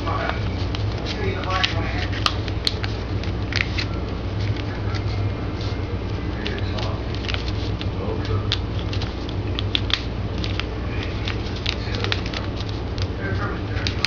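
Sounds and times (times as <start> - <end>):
paper being folded and creased: 0.0 - 14.0
steady low hum: 0.0 - 14.0.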